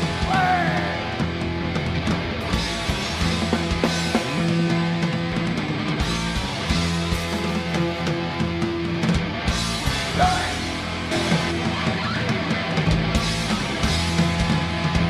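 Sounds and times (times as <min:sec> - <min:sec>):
rock music with electric guitars: 0:00.0 - 0:15.0.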